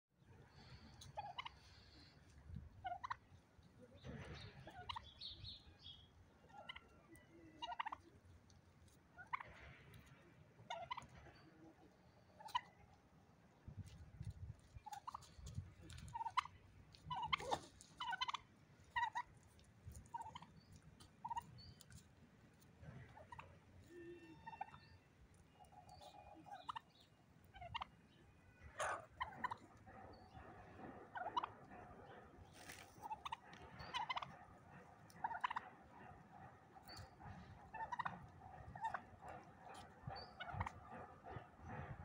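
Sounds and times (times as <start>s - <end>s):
turkeys calling and gobbling: 0.3s - 42.0s.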